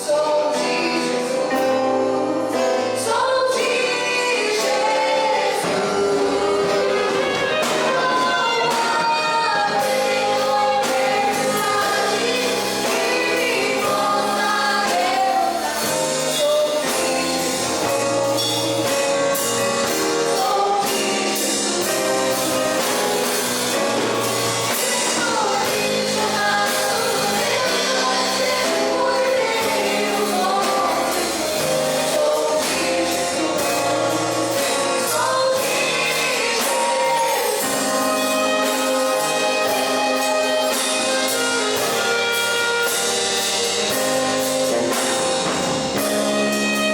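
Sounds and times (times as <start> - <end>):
group singing gospel song: 0.0 - 46.9
instrumental accompaniment: 0.0 - 46.9.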